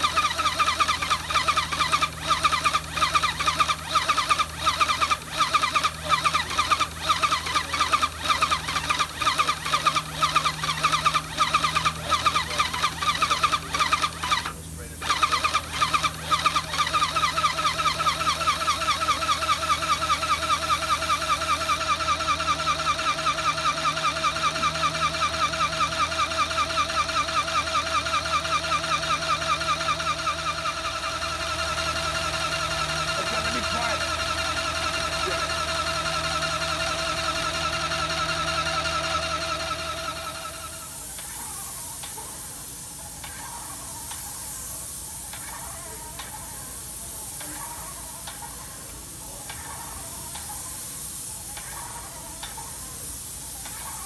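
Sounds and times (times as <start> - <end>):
paint sprayer pump whining: 0.0 - 54.0.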